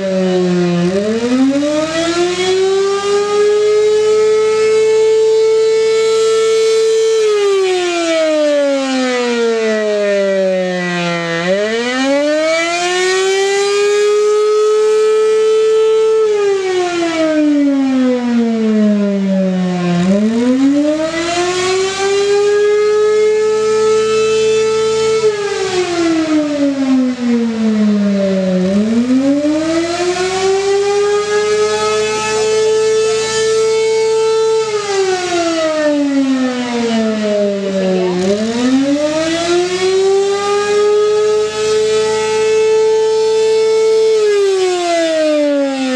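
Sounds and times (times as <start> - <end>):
rotating siren wailing: 0.0 - 45.9.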